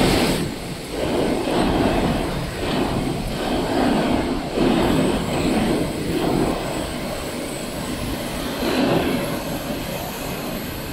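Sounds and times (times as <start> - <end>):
factory machinery rumble: 0.0 - 10.9.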